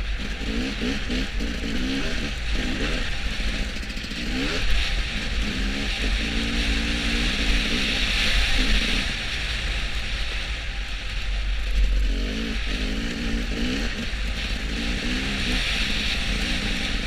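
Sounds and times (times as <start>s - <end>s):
vehicle rumble and road hiss: 0.0s - 17.0s.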